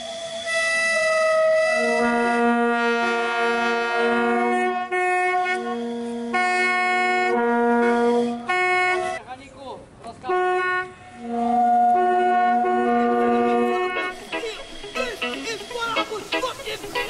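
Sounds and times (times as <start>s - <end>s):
brass-like chords music: 1.8s - 9.2s, 10.4s - 17.0s.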